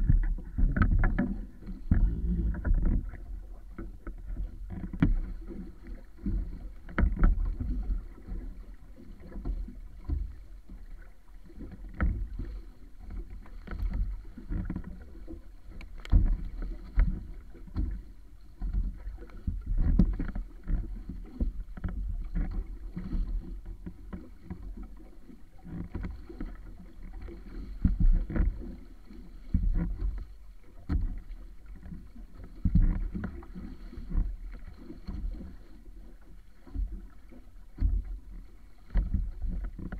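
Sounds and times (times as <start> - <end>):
boat knocks: 0.0 - 39.9
water slapping against hull: 0.0 - 39.9.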